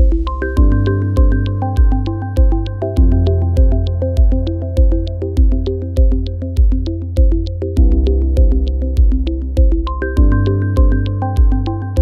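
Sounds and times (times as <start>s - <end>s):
calm electronic music: 0.0s - 12.0s.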